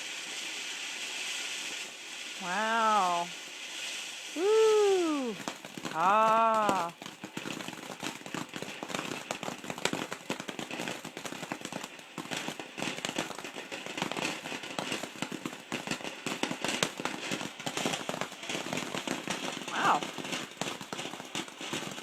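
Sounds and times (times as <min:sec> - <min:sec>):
firework crackling and popping: 0:00.0 - 0:22.0.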